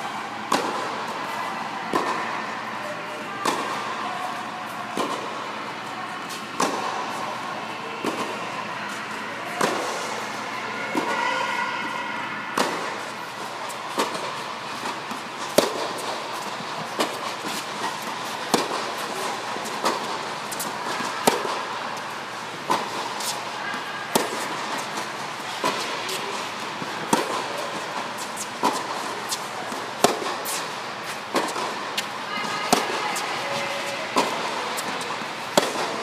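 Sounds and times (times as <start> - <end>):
steady background hum: 0.0 - 36.0
racket hitting tennis ball: 0.5 - 1.1, 1.9 - 2.4, 3.4 - 11.2, 12.6 - 36.0.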